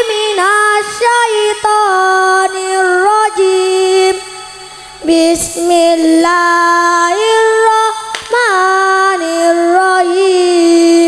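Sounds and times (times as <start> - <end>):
boy reciting melodically: 0.0 - 11.0.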